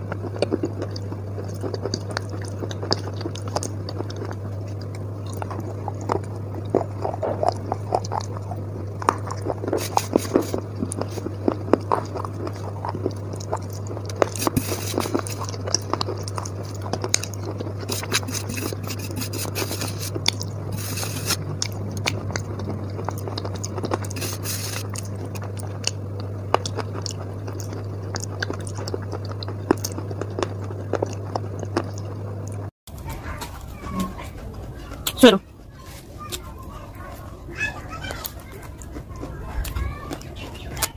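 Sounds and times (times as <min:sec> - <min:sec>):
crunching and chewing chalk: 0:00.0 - 0:40.9
steady low hum: 0:00.0 - 0:40.9.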